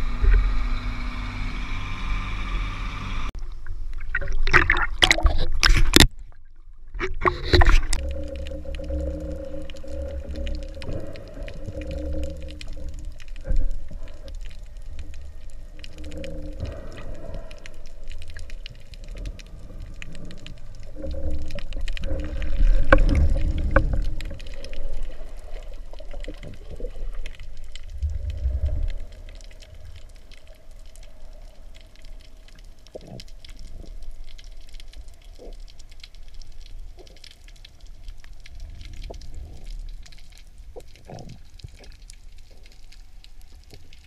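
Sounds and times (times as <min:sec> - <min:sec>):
faint steady hum: 0:00.0 - 0:44.0
low rumbling water underwater: 0:00.0 - 0:44.0.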